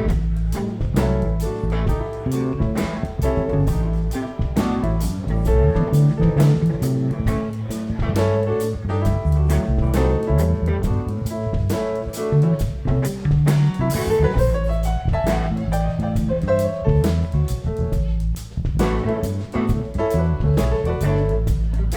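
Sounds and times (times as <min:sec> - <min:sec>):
drum kit: 0:00.0 - 0:21.9
live band playing: 0:00.0 - 0:21.9.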